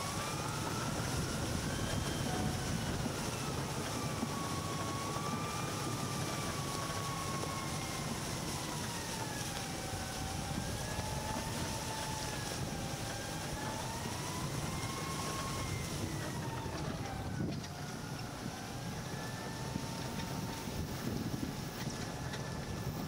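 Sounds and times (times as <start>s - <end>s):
vehicle engine rumble and whine: 0.0s - 23.0s
wind over microphone: 0.0s - 23.0s.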